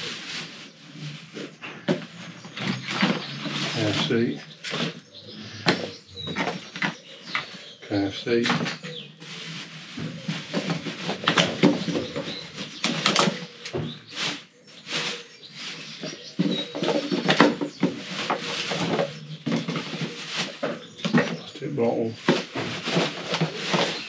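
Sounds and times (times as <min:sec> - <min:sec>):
plastic bag rustling and crinkling: 0:00.0 - 0:24.0.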